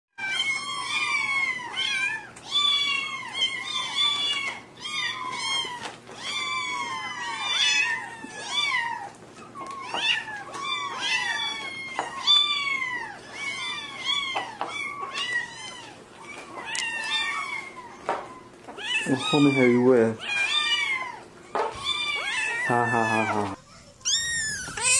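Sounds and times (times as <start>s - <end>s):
kittens meowing: 0.2s - 24.9s.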